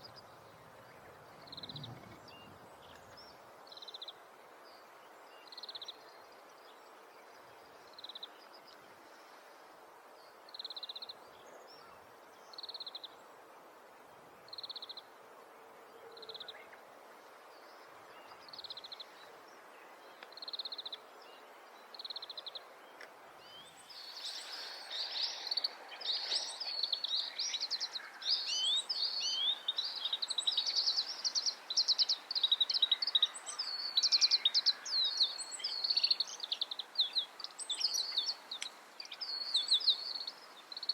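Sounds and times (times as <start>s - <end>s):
background hiss: 0.0s - 40.9s.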